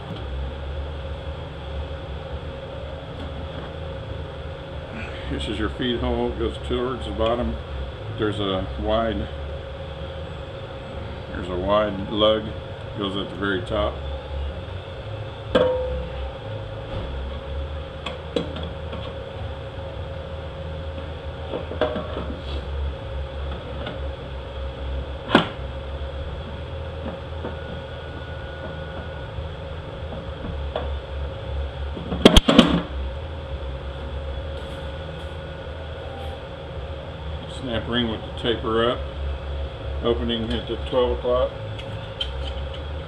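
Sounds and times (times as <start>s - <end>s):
steady shop hum: 0.0s - 43.0s.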